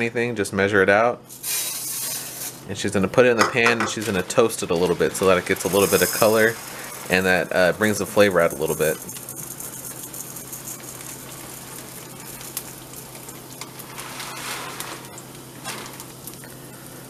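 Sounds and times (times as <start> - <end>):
rice sizzling in a pan: 1.3 - 2.7, 4.0 - 17.0.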